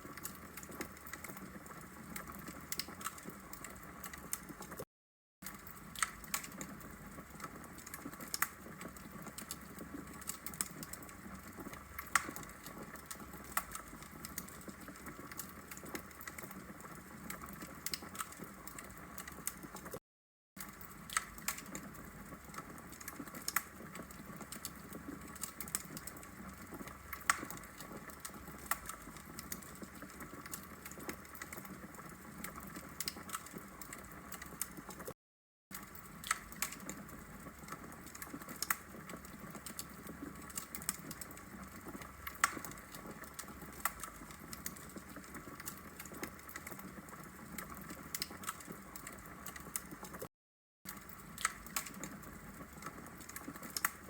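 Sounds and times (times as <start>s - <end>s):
fire pops and snaps: 0.0s - 4.8s, 5.4s - 20.0s, 20.6s - 50.3s, 50.9s - 54.0s.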